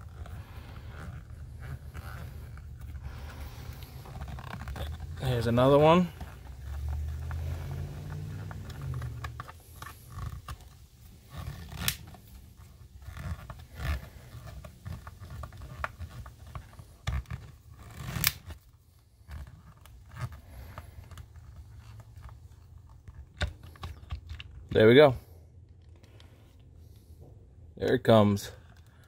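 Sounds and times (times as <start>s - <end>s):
handling noise and scraping: 0.0s - 29.0s.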